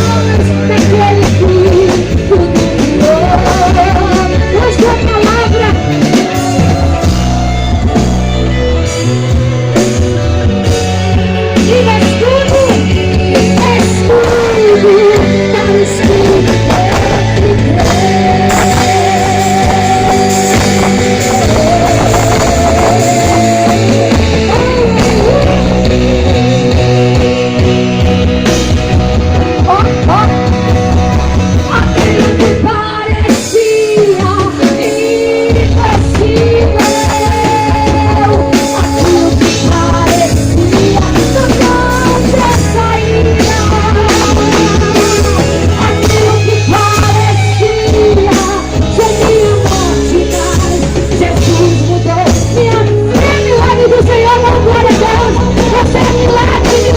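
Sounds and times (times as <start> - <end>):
live rock band playing: 0.0 - 56.9
steady bass: 0.0 - 56.9.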